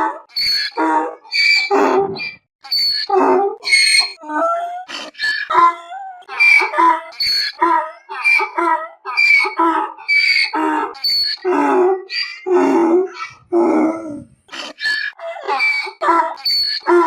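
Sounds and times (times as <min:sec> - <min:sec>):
donkey braying: 0:00.0 - 0:17.0.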